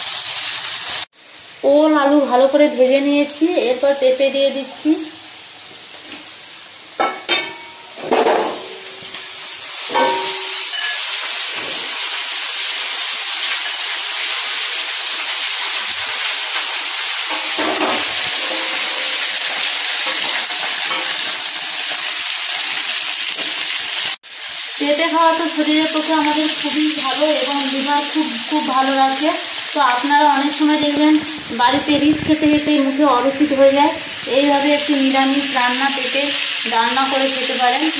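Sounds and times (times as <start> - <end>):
vegetables sizzling in hot oil: 0.0 - 37.9.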